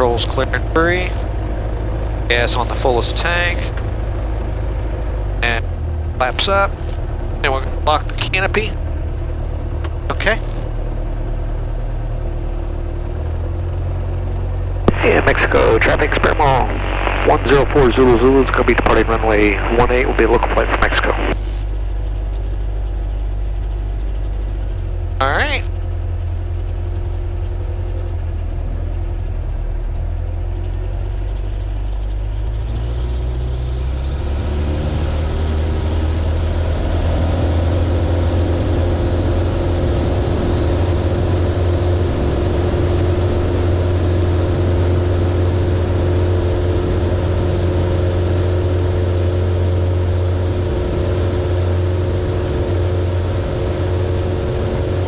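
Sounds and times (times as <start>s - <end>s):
aircraft piston engine: 0.0s - 55.0s.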